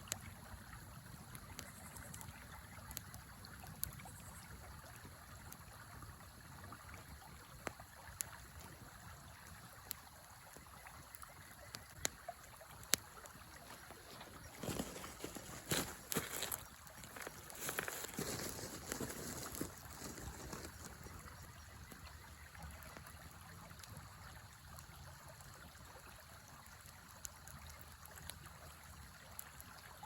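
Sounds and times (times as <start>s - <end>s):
wood fire crackling and popping: 0.0s - 29.7s.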